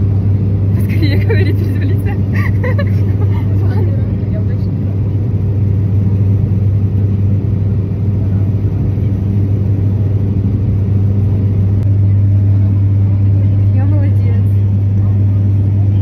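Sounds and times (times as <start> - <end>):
aircraft engine drone in cabin: 0.0 - 16.0.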